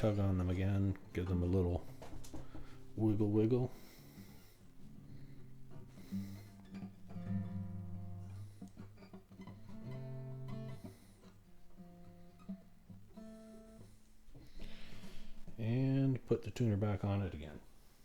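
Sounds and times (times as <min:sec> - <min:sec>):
acoustic guitar strummed and plucked: 0:00.0 - 0:18.0.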